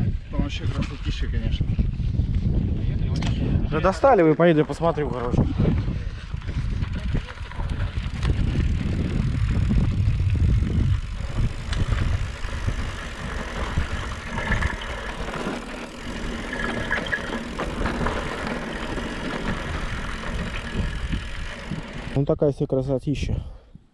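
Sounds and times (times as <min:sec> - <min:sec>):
bicycle rolling noise: 0:00.0 - 0:22.2
wind rumbling on microphone: 0:00.0 - 0:22.2.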